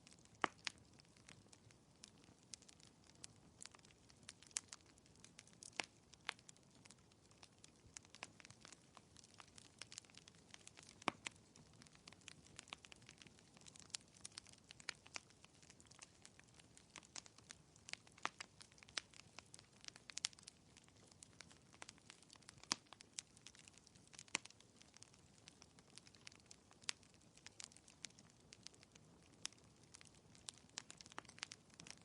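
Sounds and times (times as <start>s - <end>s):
faint low hiss: 0.0s - 32.0s
fire crackling and popping: 0.0s - 32.0s.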